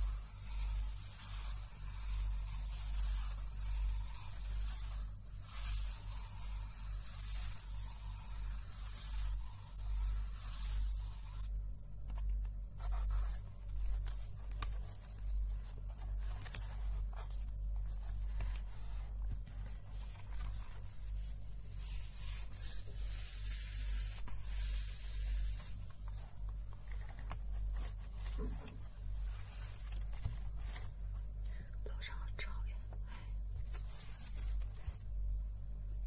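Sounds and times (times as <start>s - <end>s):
hand rubbing across paper: 0.0s - 11.6s, 12.6s - 31.2s, 33.6s - 35.1s
steady low hum: 0.0s - 36.0s.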